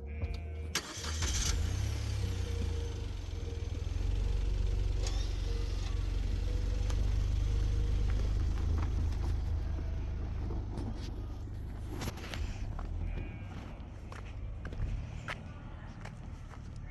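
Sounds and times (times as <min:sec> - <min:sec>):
motor vehicle rumbling: 0:00.0 - 0:16.9.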